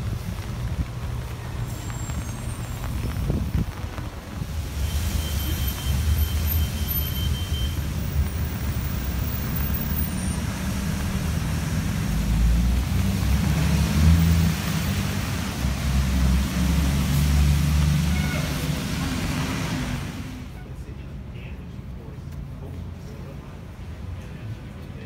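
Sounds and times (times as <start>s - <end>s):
cars passing on wet road: 0.0s - 20.6s.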